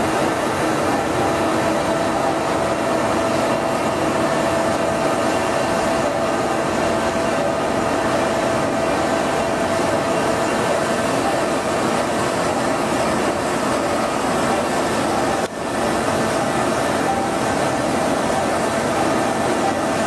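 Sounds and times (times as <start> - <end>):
boring mill machine running: 0.0 - 20.0
steady machine tone: 0.0 - 20.0.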